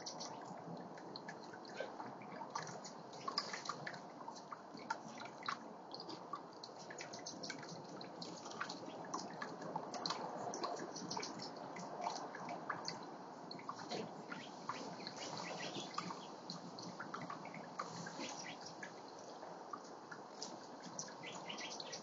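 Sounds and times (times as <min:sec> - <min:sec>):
fountain water splashing and trickling: 0:00.0 - 0:22.0.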